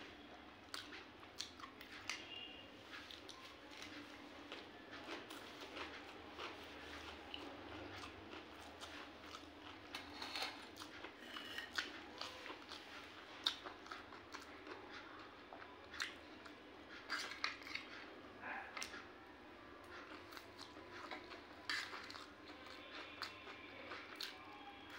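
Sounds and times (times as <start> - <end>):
chewing and slurping noodles: 0.6 - 18.2, 19.8 - 24.9.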